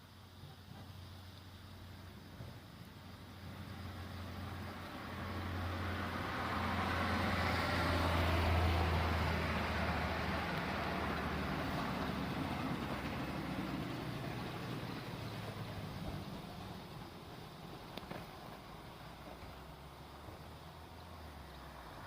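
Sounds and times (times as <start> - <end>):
vehicle passing on road: 2.3 - 22.0.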